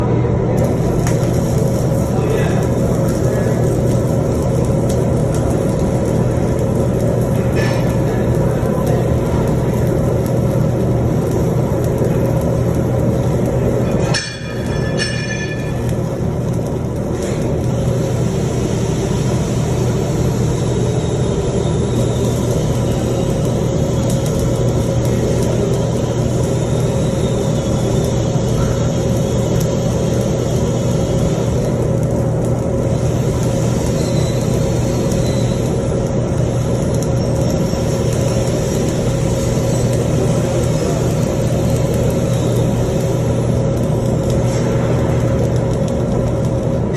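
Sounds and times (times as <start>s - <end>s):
steady low hum: 0.0s - 46.9s
welding arc crackling: 0.6s - 46.9s.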